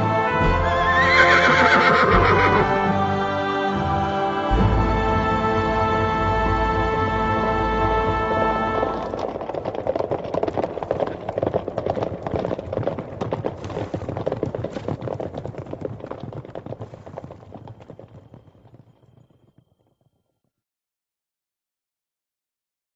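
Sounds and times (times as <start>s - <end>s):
horses galloping: 0.0s - 20.1s.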